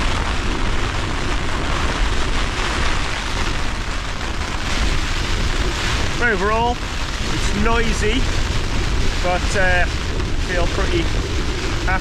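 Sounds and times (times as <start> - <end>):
rain on tent fabric: 0.0 - 12.0
wind gusts buffeting: 0.0 - 12.0.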